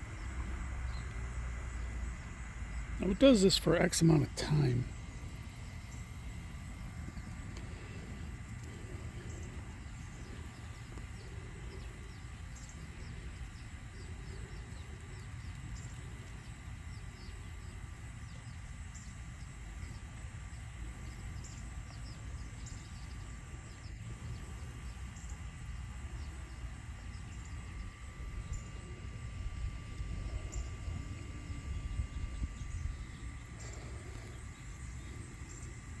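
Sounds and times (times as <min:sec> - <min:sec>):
birds chirping: 0:00.0 - 0:36.0
lawn mower motor whine: 0:00.0 - 0:36.0
low steady rumble: 0:00.0 - 0:36.0.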